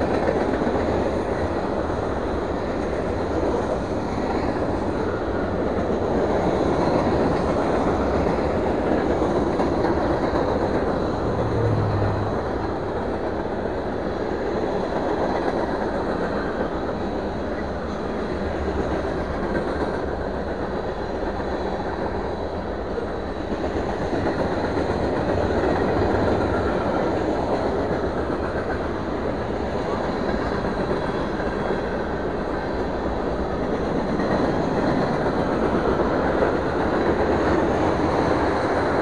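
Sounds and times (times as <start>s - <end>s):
train wheels rolling on rails: 0.0s - 39.0s.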